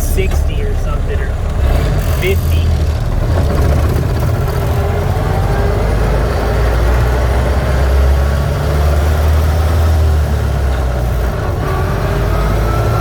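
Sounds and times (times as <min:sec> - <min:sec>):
truck engine low drone: 0:00.0 - 0:13.0.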